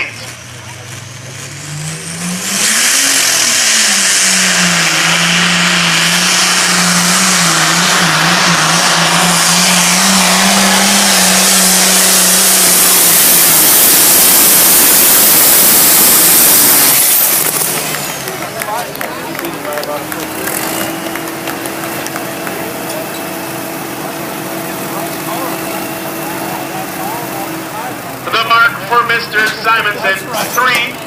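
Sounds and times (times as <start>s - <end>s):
tractor engine roaring under load: 0.0s - 31.0s.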